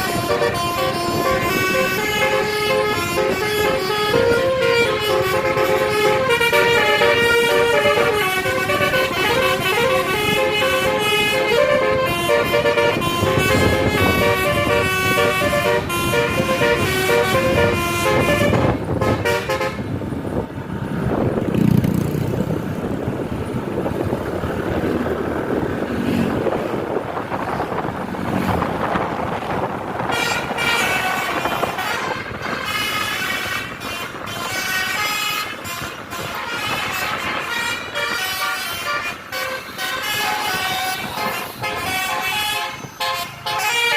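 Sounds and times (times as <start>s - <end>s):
multi-tone musical bus horn: 0.0s - 20.2s, 28.8s - 43.9s
engine and traffic noise: 0.0s - 43.9s.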